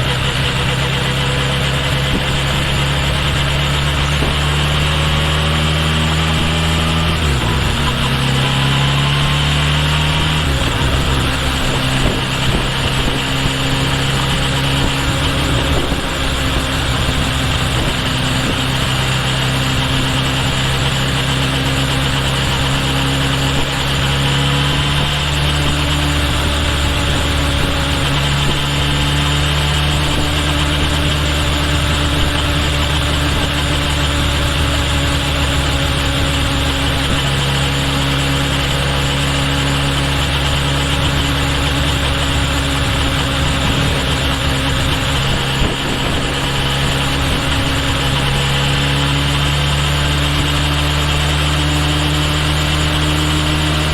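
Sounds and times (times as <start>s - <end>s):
motorcycle engine running: 0.0s - 53.9s
wind and road rush: 0.0s - 53.9s.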